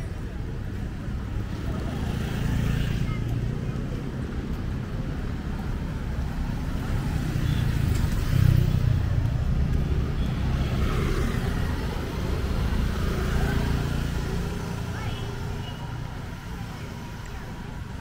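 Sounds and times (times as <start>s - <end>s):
motorcycle engines: 0.0s - 18.0s.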